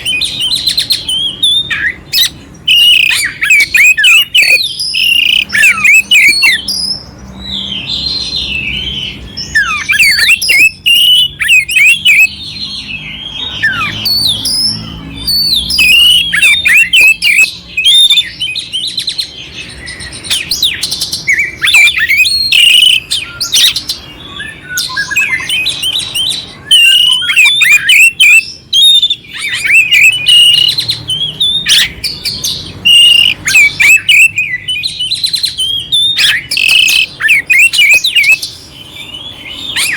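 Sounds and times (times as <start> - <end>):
songbird singing whistled notes: 0.0 - 39.9.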